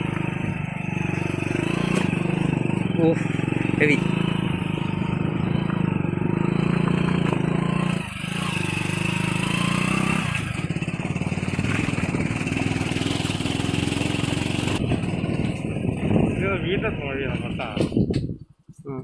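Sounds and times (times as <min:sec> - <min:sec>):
motorcycle engine running under load: 0:00.0 - 0:18.4.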